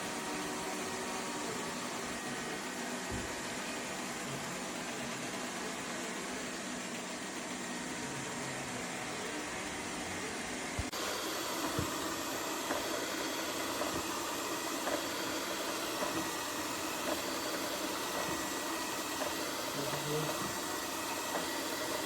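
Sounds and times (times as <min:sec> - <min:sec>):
robot vacuum cleaner humming: 0:00.0 - 0:22.0.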